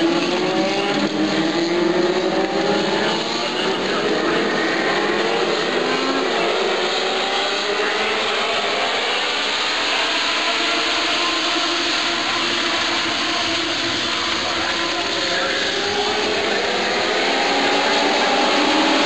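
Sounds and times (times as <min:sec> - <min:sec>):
race car engines roaring: 0:00.0 - 0:19.0.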